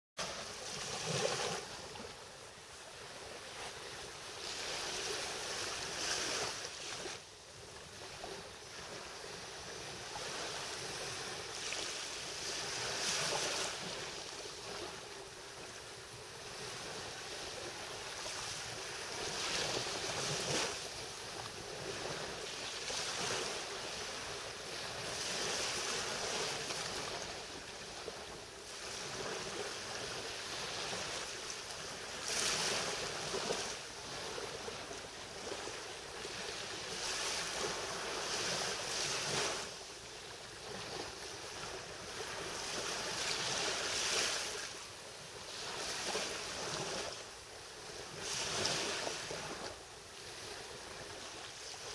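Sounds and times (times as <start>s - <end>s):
small waves lapping on sand: 0.2s - 51.9s.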